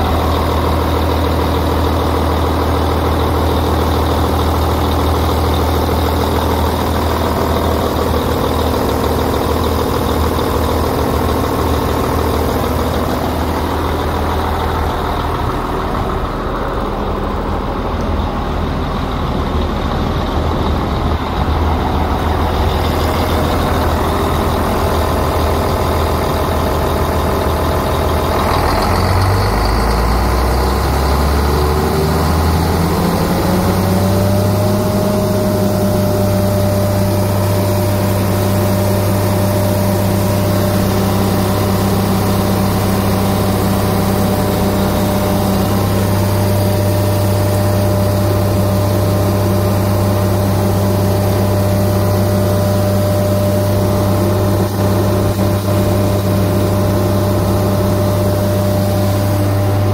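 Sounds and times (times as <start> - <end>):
shredder engine running: 0.0 - 59.9.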